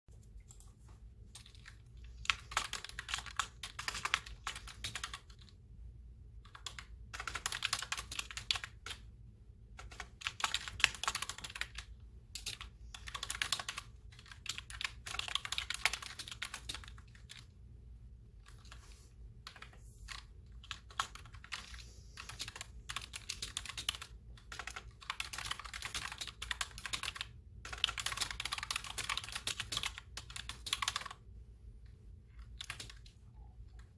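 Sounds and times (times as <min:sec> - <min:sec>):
clicky keyboard typing: 0:00.3 - 0:05.6, 0:06.4 - 0:09.1, 0:09.7 - 0:17.5, 0:19.4 - 0:31.2, 0:32.3 - 0:33.9.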